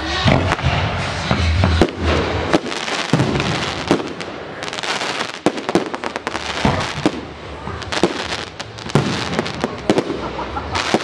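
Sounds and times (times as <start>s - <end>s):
firework crackling: 0.0s - 11.0s
firework bangs: 0.2s - 11.0s.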